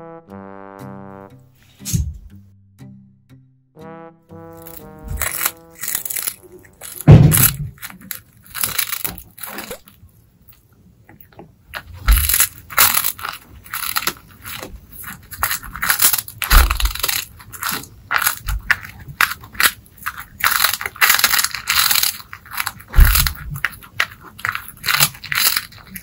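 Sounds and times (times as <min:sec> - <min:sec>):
cat crunching and chewing food: 0:04.6 - 0:26.0.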